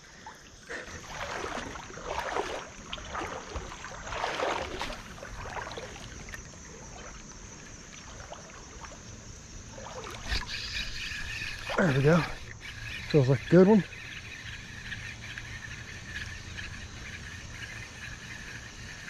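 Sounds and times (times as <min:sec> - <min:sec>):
stream trickling: 0:00.0 - 0:19.0
water sloshing around legs: 0:00.0 - 0:19.0.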